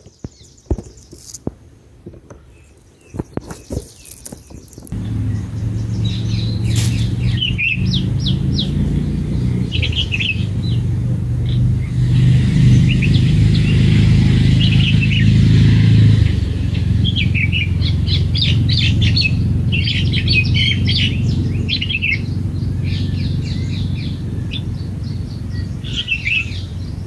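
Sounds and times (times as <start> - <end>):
bird chirping: 0.0 - 1.4, 2.3 - 15.4, 16.7 - 27.0
steady low rumble: 4.0 - 27.0.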